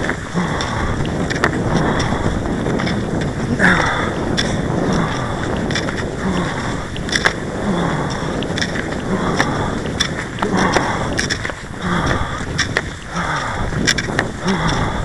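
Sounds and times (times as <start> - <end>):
ski pole tips clicking: 0.0 - 15.0
skis scraping and gliding on snow: 0.0 - 15.0
wind rumble on microphone: 0.0 - 15.0.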